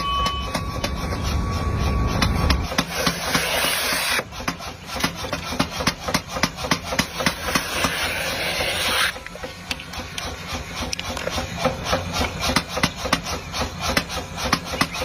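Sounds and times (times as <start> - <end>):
rasping scraping on steel: 0.8 - 15.0.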